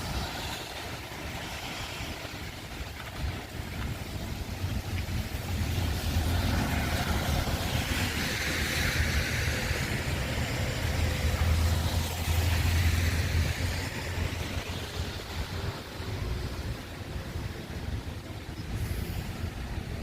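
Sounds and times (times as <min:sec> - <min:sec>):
car tyres hissing on wet road: 0:00.0 - 0:20.0.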